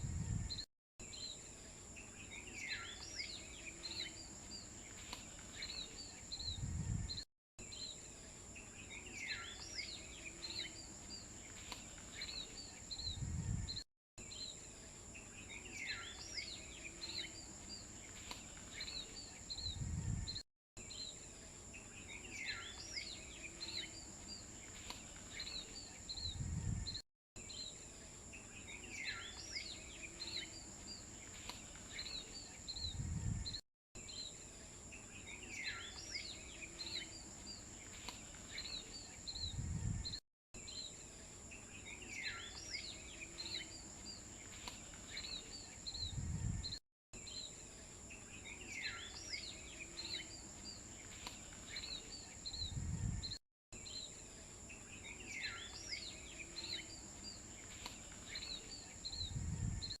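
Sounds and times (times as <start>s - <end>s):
birds chirping: 0.4s - 60.0s.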